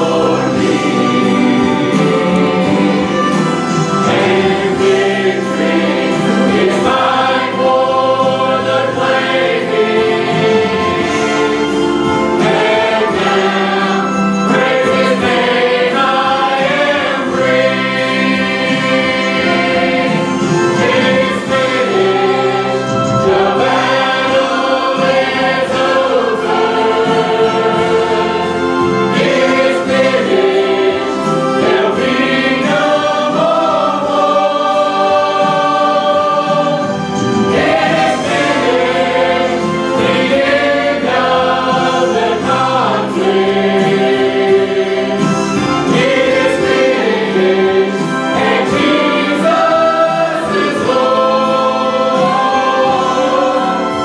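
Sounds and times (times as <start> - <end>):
choir singing gospel: 0.0 - 54.0.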